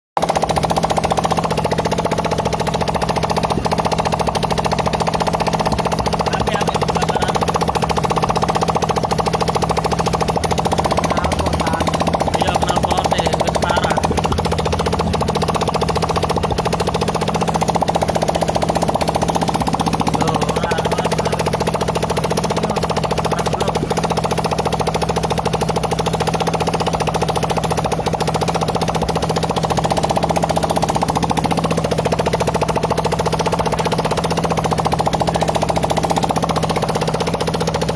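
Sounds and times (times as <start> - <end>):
motorcycle engine running: 0.2 - 37.9.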